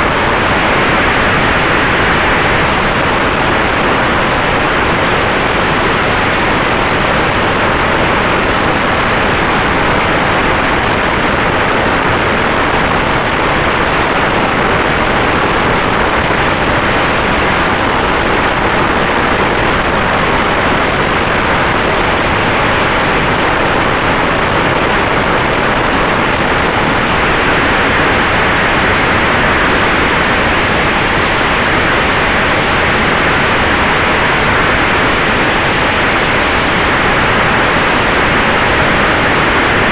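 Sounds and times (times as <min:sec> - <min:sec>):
faint steady whine: 0:00.0 - 0:39.9
rush of air in flight: 0:00.0 - 0:39.9.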